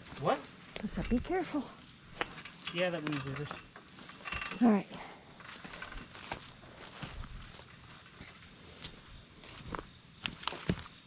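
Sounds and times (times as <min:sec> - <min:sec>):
faint footsteps on forest floor: 0:00.0 - 0:11.0
high-pitched insect chorus: 0:00.0 - 0:11.0.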